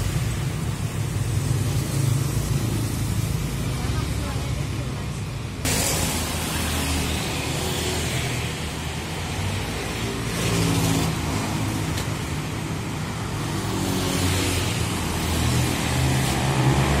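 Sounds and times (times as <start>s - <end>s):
scooters and cars passing: 0.0s - 17.0s.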